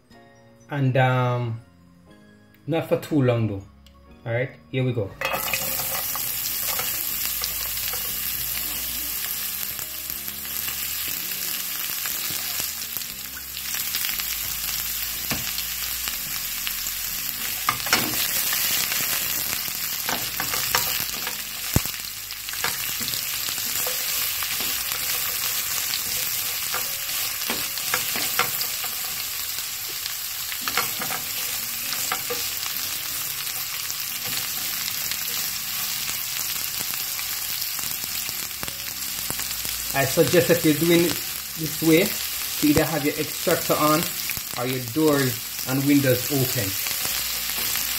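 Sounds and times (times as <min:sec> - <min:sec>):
vegetables sizzling in hot oil: 0:05.2 - 0:47.9.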